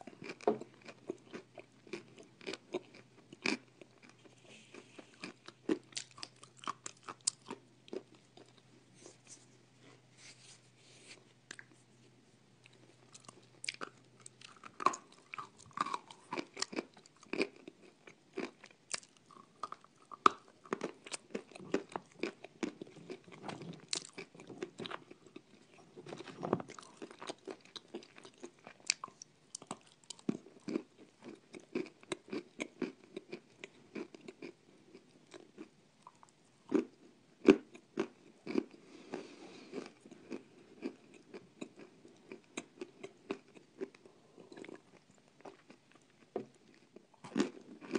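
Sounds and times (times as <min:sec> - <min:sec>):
crisp crunching while chewing: 0:00.0 - 0:08.6, 0:12.7 - 0:47.9.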